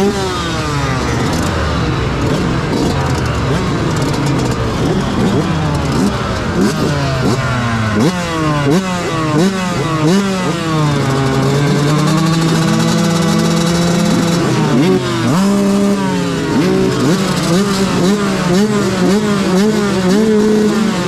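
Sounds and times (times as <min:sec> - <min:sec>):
other motorbikes revving: 0:00.0 - 0:21.0
two-stroke motorbike engine revving: 0:00.0 - 0:21.0.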